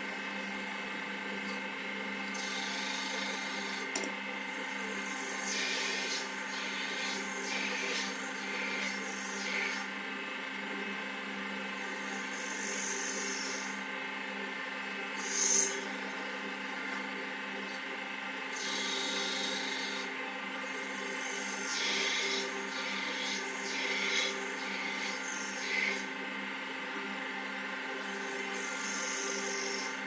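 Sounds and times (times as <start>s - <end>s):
lathe motor humming: 0.0s - 30.0s.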